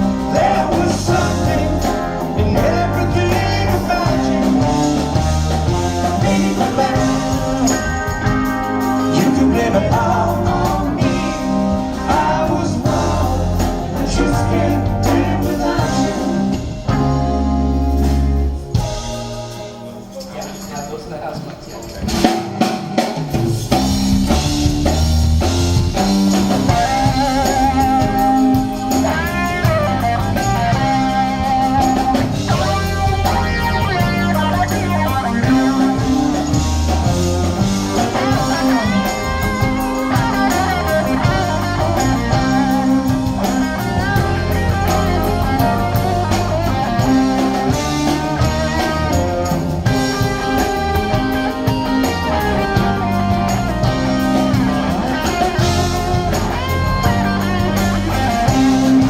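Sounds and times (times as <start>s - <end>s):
bass guitar: 0.0s - 20.2s, 21.9s - 59.0s
drum kit: 0.0s - 59.0s
lead guitar with bent notes: 0.0s - 59.0s.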